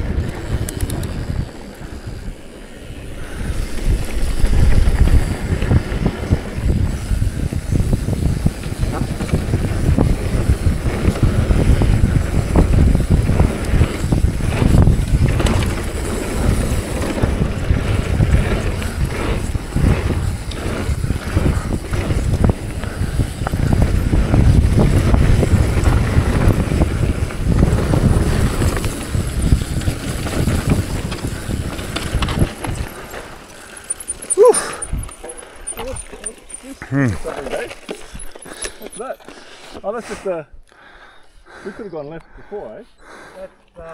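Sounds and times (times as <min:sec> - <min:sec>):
wind buffeting microphone: 0:00.0 - 0:36.1
bike rattling over bumps: 0:00.0 - 0:39.9
bike tyres rolling over dirt and rocks: 0:00.0 - 0:40.0.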